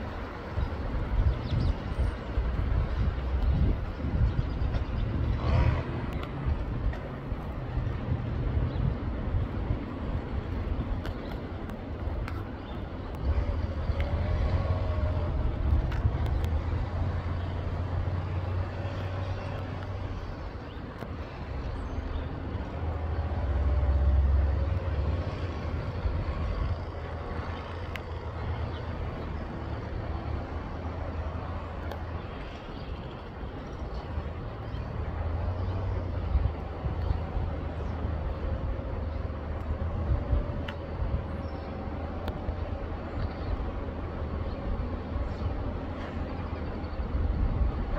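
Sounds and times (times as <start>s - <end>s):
distant engines rumbling: 0.0s - 47.9s.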